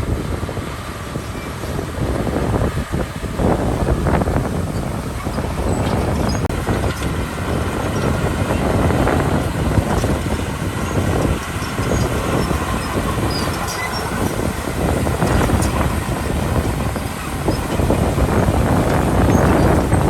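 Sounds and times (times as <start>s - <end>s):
diesel engine under load: 0.0s - 20.0s
steel tracks clanking: 0.0s - 20.0s.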